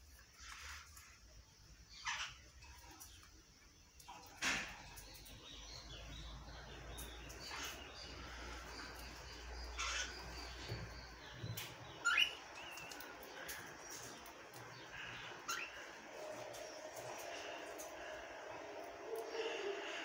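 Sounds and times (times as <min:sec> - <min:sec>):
finches chirping: 0:01.4 - 0:04.2, 0:04.8 - 0:20.0.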